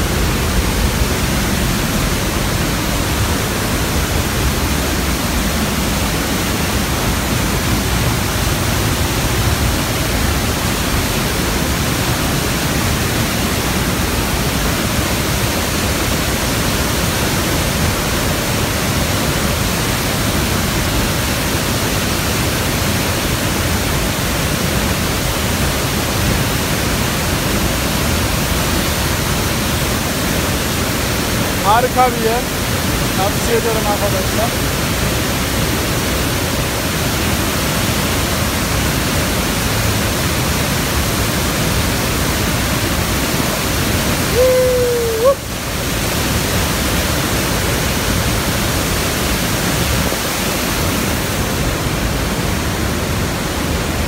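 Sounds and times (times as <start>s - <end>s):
waterfall crashing: 0.0s - 54.0s.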